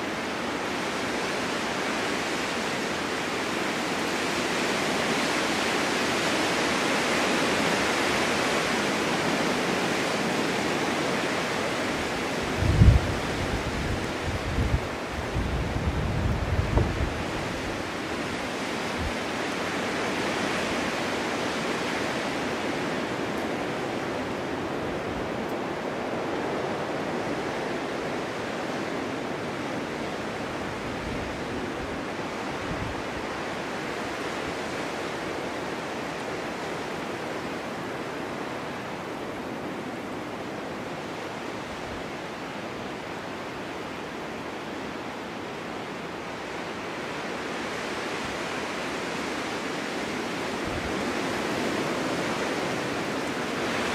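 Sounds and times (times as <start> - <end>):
low wind gusts: 0.0 - 53.9
snowstorm wind rushing: 0.0 - 53.9.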